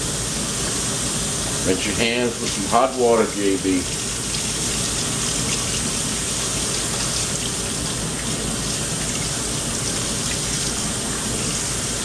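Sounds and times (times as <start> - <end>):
faucet running into metal sink: 1.7 - 12.0.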